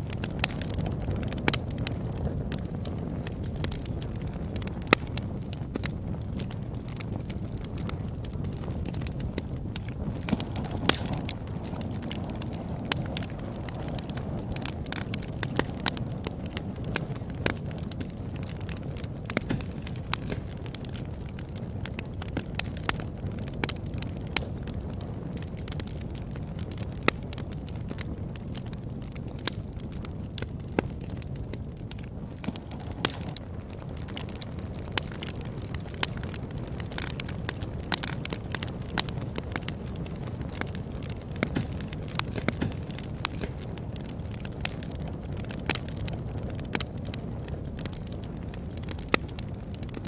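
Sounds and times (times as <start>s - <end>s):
sharp pops and crackles: 0.0s - 50.0s.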